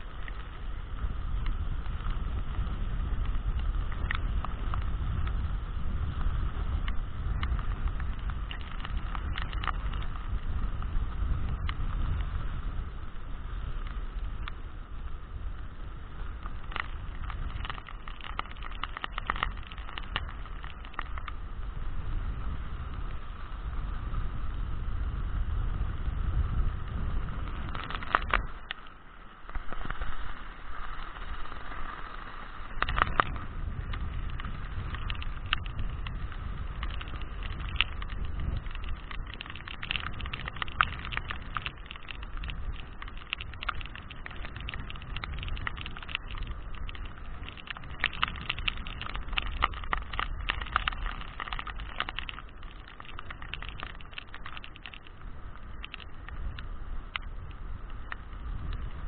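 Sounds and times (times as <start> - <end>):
wind buffeting microphone: 0.0 - 28.8, 29.4 - 59.0
heavy rain: 0.0 - 59.0.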